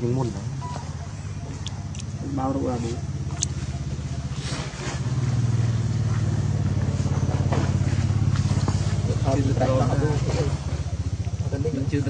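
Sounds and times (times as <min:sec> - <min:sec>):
engine running with rapid pulse: 0:00.0 - 0:12.0.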